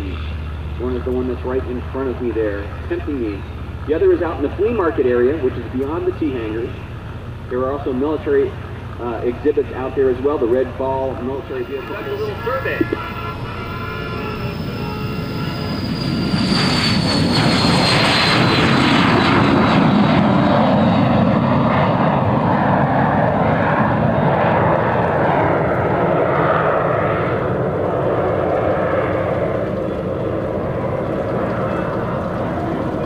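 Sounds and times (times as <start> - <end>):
jet taking off: 0.0 - 33.0.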